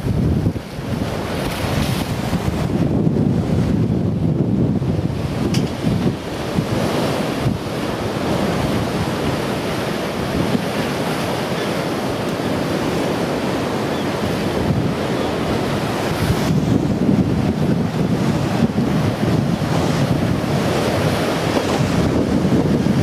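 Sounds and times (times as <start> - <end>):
storm surf roaring: 0.0 - 23.0
wind buffeting microphone: 0.0 - 23.0.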